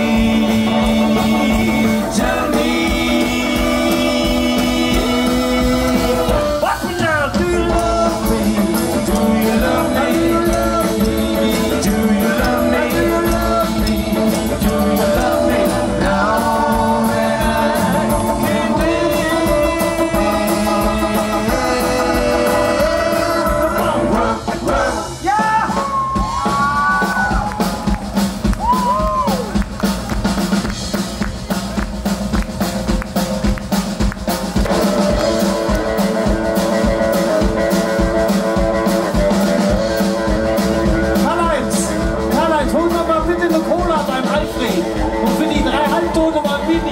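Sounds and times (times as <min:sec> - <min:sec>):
electric guitar: 0:00.0 - 0:25.0, 0:32.3 - 0:46.9
upright double bass: 0:00.0 - 0:25.5, 0:26.4 - 0:46.9
drum kit: 0:00.0 - 0:46.9.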